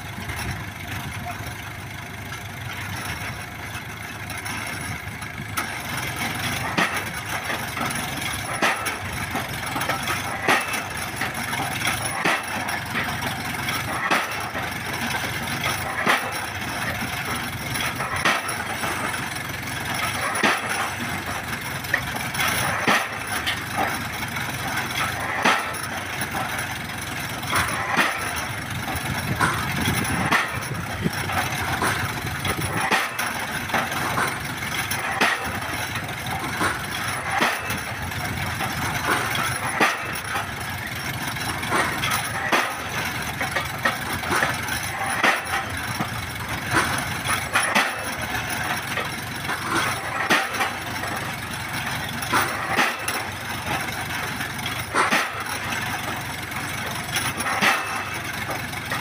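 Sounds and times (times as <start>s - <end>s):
winch engine running: 0.0s - 59.0s.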